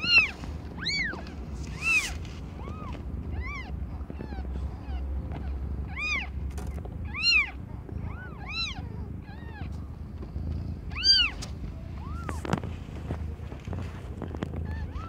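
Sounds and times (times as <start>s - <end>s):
kittens mewing: 0.0s - 15.0s.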